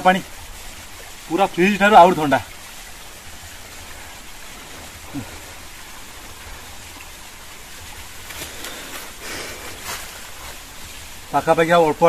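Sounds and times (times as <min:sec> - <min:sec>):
spring water running: 0:00.0 - 0:12.0.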